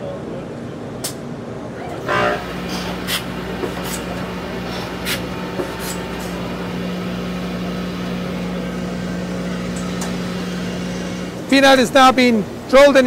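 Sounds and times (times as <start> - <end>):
machine humming: 1.8 - 13.0.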